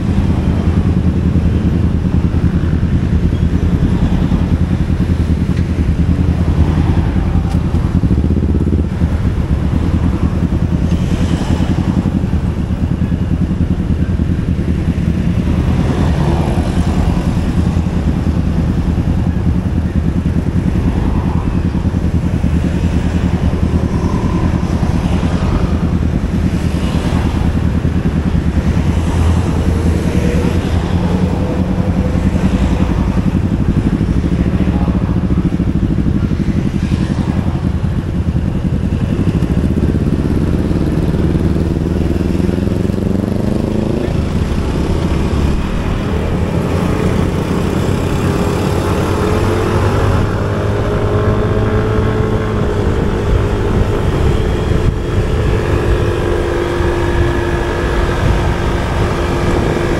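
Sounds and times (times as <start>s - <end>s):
motor scooter engine and road noise: 0.0s - 59.9s.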